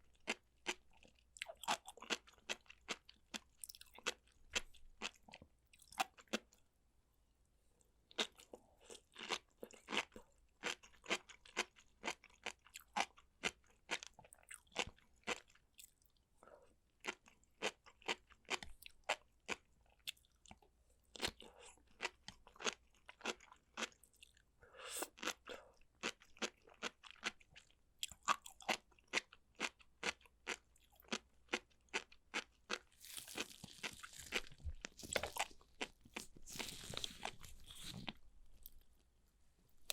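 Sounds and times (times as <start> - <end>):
person chewing crunchy food: 0.0 - 6.6, 8.1 - 16.0, 16.6 - 39.0.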